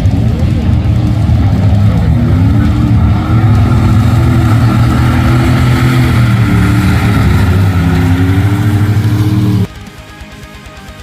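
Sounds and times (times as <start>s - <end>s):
loud truck engine running: 0.0s - 10.1s.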